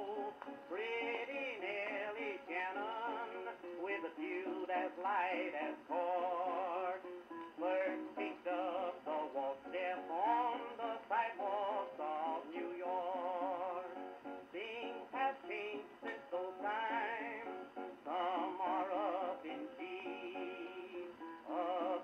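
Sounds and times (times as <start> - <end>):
man singing on old phonograph: 0.0 - 22.0.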